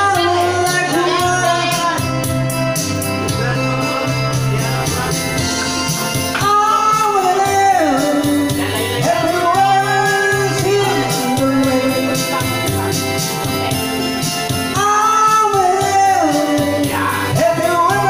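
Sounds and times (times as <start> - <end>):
person singing into a microphone: 0.0 - 18.0
rock backing track: 0.0 - 18.0.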